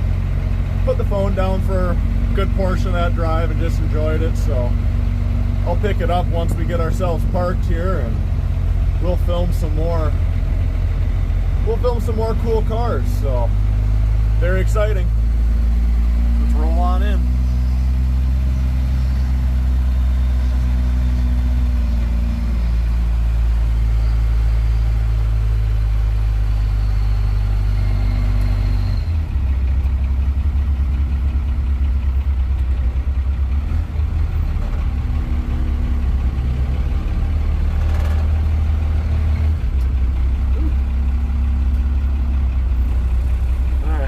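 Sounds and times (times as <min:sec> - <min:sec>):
truck engine running: 0:00.0 - 0:44.0.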